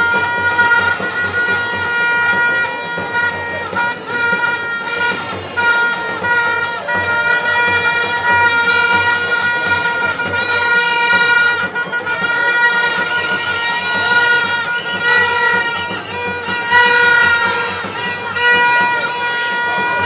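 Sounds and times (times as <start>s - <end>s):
loud held horn-like note: 0.0s - 20.0s
rough noisy background: 0.0s - 20.0s.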